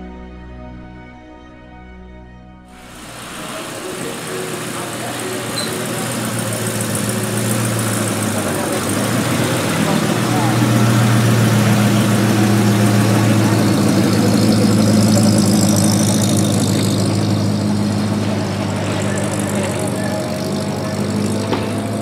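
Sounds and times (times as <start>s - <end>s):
car engine running low: 2.8s - 22.0s.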